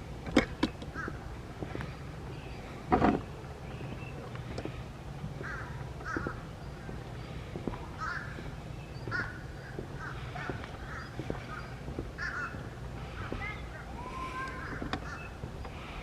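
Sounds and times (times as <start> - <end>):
bird calls: 0.8 - 16.0.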